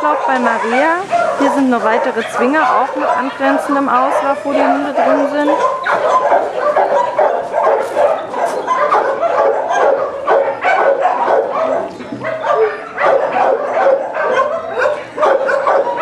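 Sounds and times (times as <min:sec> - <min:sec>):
many dogs barking: 0:00.0 - 0:16.0.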